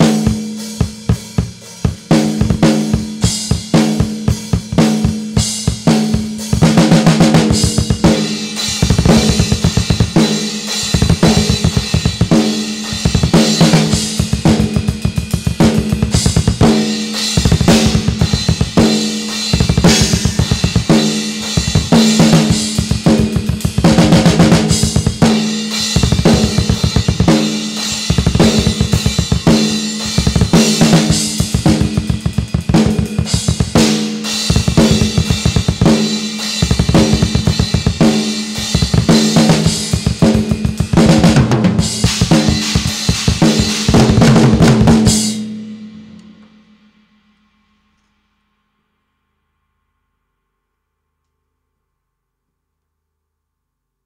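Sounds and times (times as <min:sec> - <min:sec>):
distorted guitars: 0:00.0 - 0:46.6
drum kit played hard: 0:00.0 - 0:47.0.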